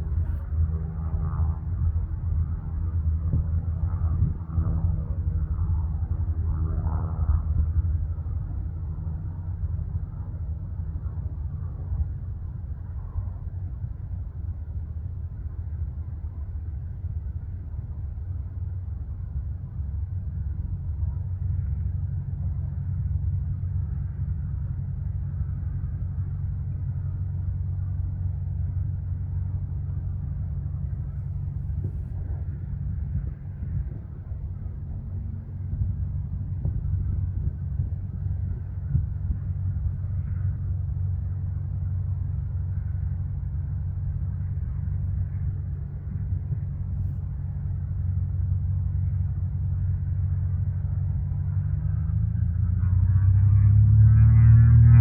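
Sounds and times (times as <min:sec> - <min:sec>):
piston aircraft engine running: 0:00.0 - 0:55.0.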